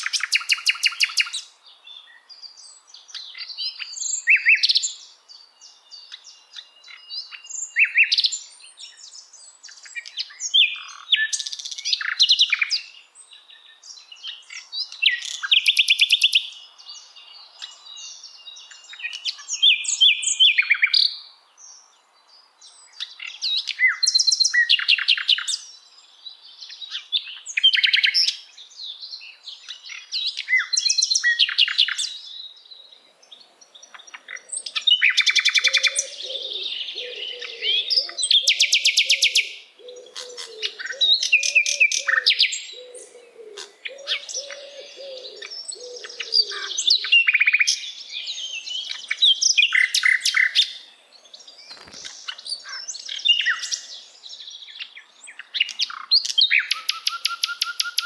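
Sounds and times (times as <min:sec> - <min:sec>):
songbird singing trills and whistles: 0:00.0 - 0:58.0.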